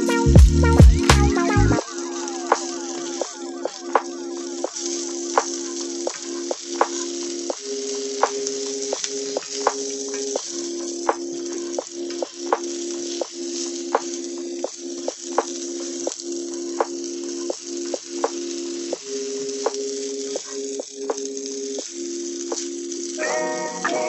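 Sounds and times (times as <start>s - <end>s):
food sizzling in a skillet: 1.8s - 24.0s.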